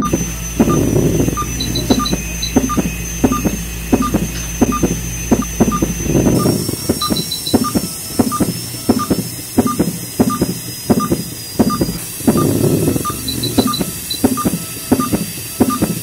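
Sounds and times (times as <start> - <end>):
low equipment hum: 0.0 - 16.0
scattered clicks: 0.0 - 16.0
short regular beeps: 0.0 - 16.0
thin high whine: 0.0 - 16.0.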